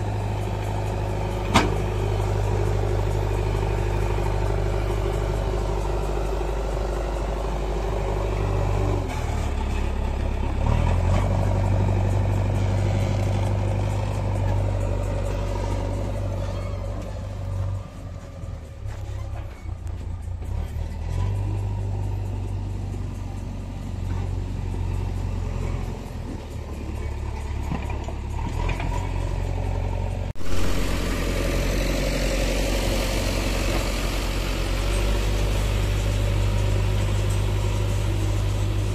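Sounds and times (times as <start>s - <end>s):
diesel engine under load: 0.0s - 38.9s.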